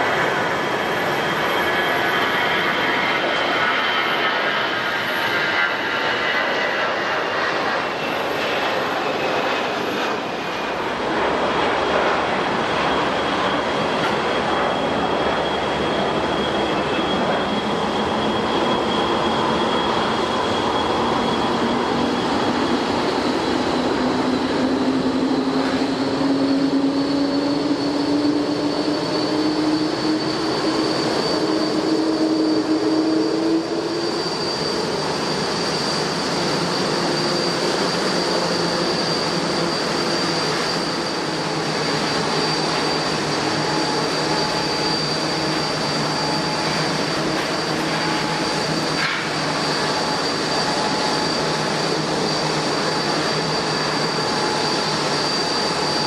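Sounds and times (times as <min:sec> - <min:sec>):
jet engines roaring: 0:00.0 - 0:56.0
rising engine whine: 0:00.0 - 0:56.0.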